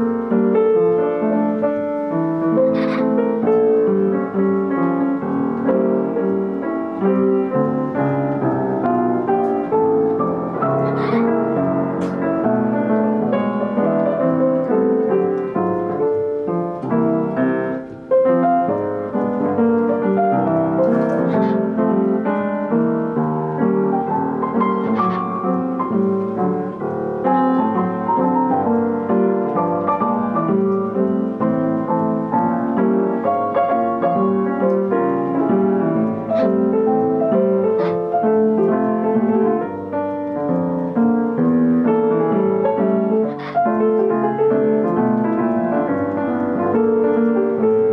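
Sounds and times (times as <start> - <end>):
piano music: 0.0 - 47.9.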